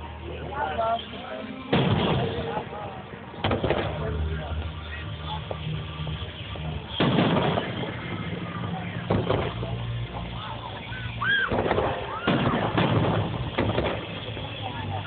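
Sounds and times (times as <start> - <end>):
low hum: 0.0 - 15.0
fireworks bursting: 0.7 - 15.0.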